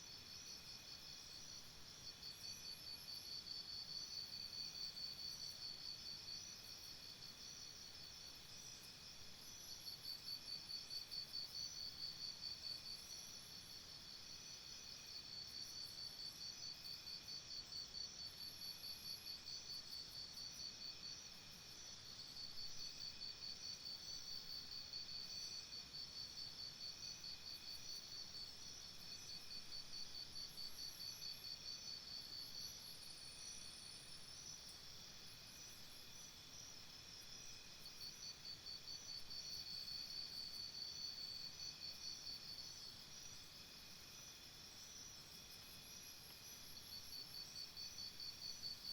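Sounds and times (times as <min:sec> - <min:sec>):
steady insect hum: 0:00.0 - 0:48.9.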